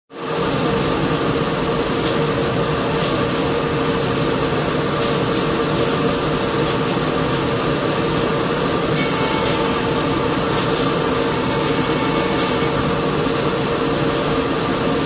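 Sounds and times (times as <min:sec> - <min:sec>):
machine whirring with steady hum: 0:00.2 - 0:15.0.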